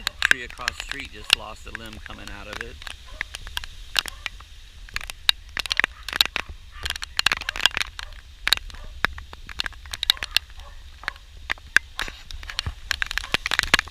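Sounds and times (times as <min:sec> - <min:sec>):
sharp clicks and taps: 0:00.0 - 0:13.9
wind rumbling on microphone: 0:00.0 - 0:13.9.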